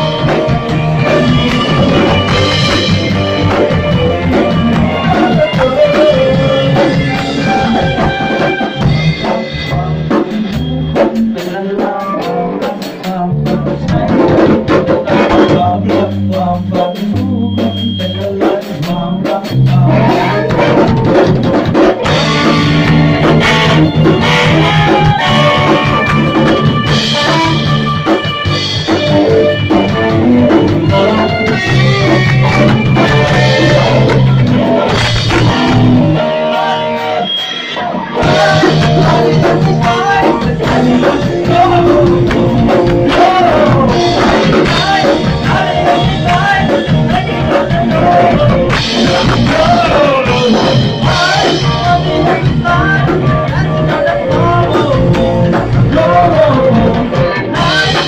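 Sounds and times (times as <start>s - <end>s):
drum kit with cymbals: 0.0s - 58.0s
electric bass: 0.0s - 58.0s
electric guitar: 0.0s - 58.0s.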